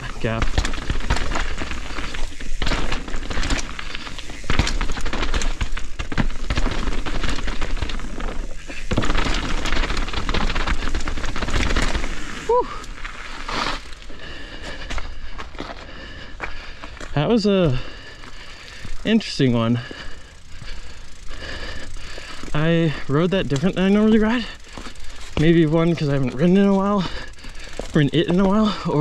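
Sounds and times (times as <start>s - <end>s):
bike rattling over roots: 0.0s - 29.0s.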